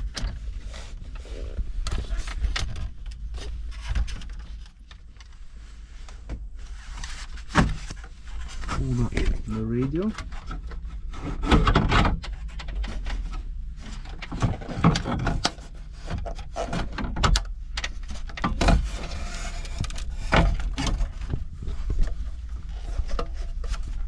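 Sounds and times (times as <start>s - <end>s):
plastic and metal knocks and scraping: 0.0s - 5.4s, 6.2s - 24.0s.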